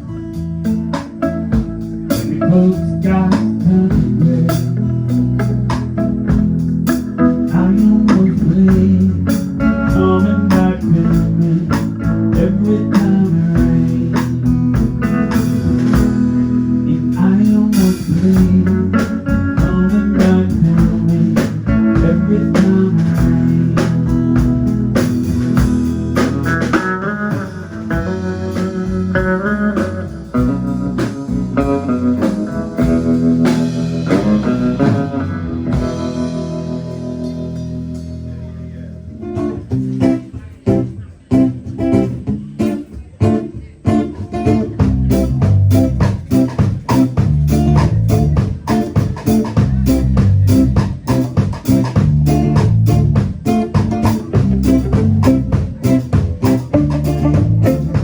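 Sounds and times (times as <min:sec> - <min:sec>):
steady drum beat: 0:00.0 - 0:38.2, 0:39.2 - 0:58.0
bass: 0:00.0 - 0:58.0
blues band instrumental: 0:00.0 - 0:58.0
guitar lines: 0:00.0 - 0:58.0.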